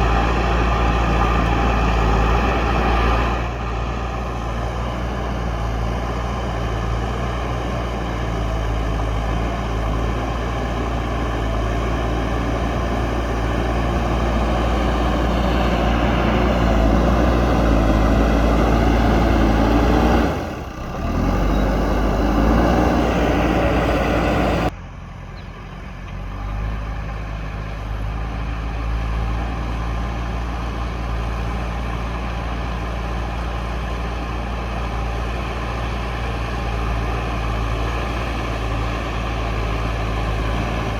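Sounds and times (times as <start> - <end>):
backhoe diesel engine under load: 0.0 - 40.9.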